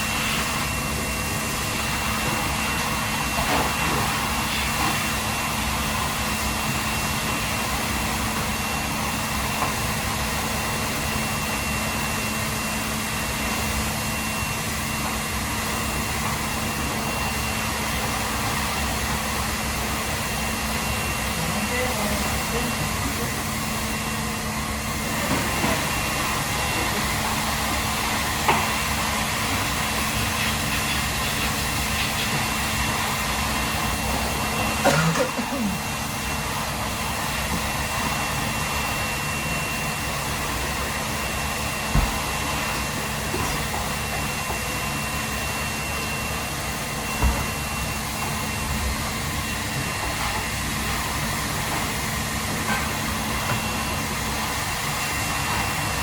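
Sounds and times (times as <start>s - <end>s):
ventilation fan hum: 0.0s - 56.0s.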